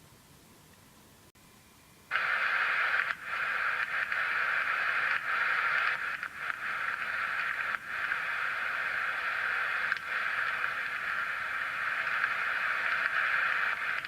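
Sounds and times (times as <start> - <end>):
radio static hiss: 2.1 - 14.0.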